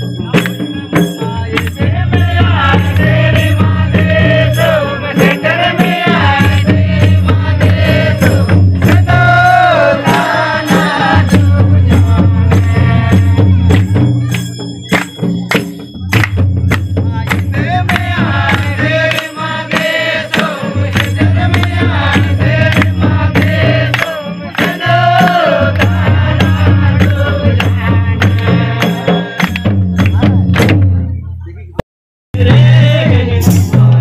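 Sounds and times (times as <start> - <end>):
voices singing devotional song: 0.0 - 15.0, 16.3 - 30.4, 32.4 - 34.0
percussion strokes: 0.0 - 31.6, 32.4 - 34.0.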